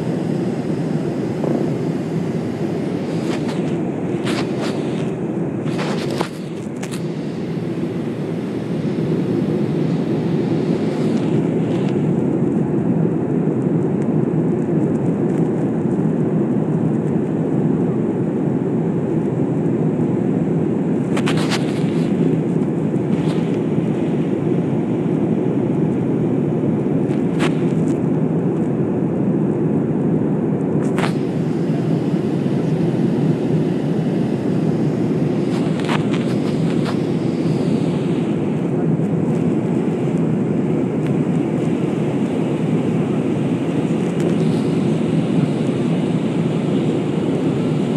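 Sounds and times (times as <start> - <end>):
jet cabin engine drone: 0.0 - 47.9.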